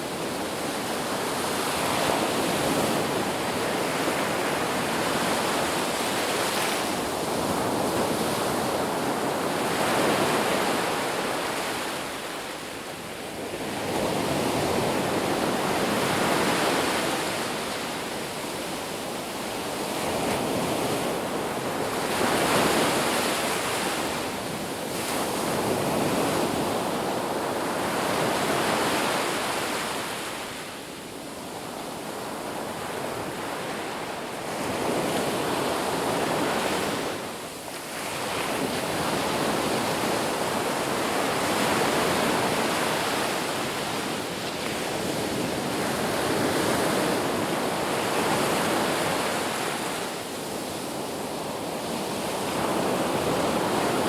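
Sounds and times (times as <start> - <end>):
ocean waves washing onto beach: 0.0 - 54.0.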